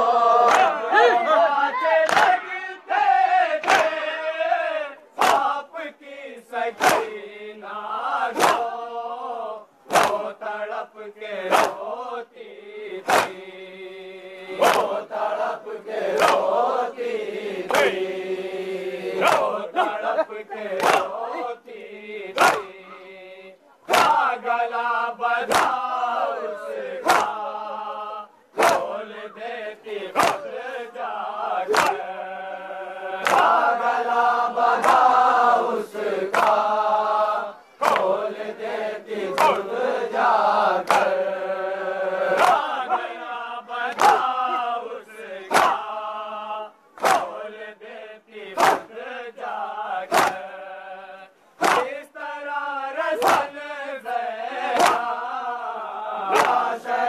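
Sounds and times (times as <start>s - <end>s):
men chanting in unison: 0.0s - 57.0s
rhythmic chest-beating: 0.0s - 57.0s.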